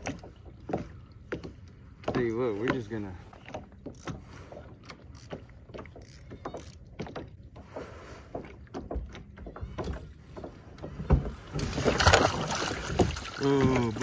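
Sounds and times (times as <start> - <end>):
water splashing: 2.2 - 14.0.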